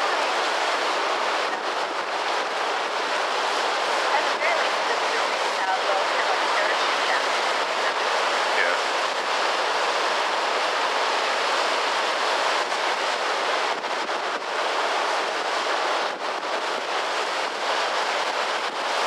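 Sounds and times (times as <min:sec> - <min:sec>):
rapids rushing over waterfall: 0:00.0 - 0:19.0.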